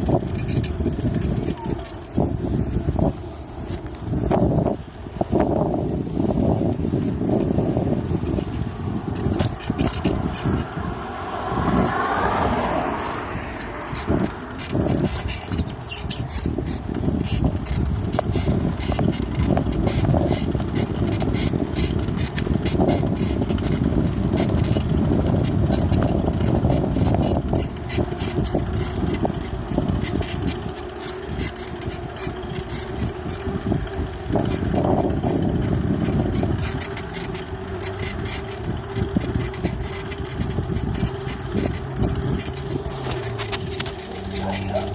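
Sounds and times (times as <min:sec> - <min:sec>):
vehicle engine rumbling: 0:00.0 - 0:44.9.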